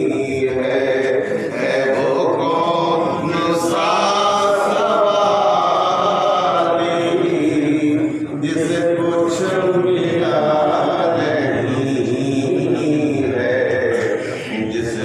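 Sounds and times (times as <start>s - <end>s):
men singing devotional song: 0.0s - 15.0s.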